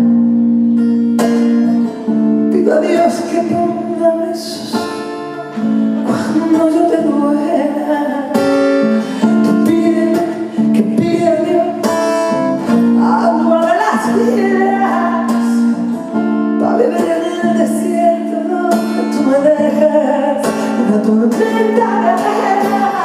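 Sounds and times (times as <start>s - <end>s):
strummed acoustic guitar: 0.0s - 23.0s
woman singing: 2.2s - 23.0s.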